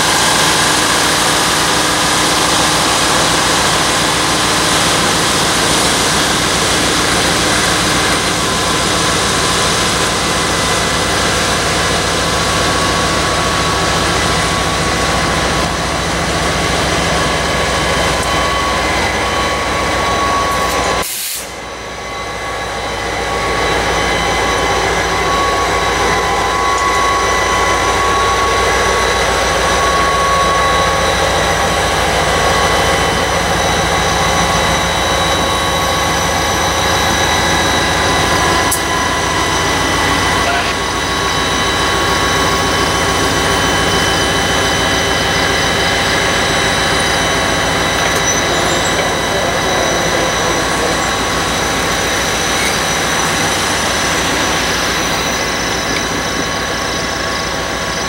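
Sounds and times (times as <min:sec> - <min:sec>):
diesel locomotive engine: 0:00.0 - 0:58.0
high-pitched whining tones: 0:00.0 - 0:58.0
steel wheels on rail: 0:00.0 - 0:58.0.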